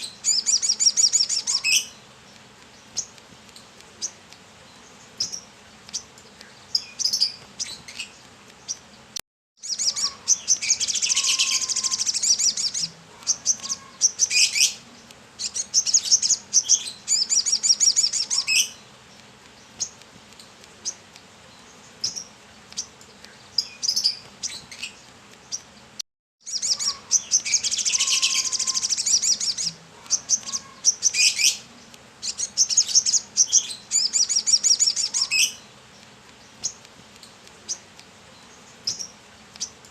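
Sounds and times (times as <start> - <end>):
sunbird twittering trills: 0.0 - 25.8, 26.4 - 39.9.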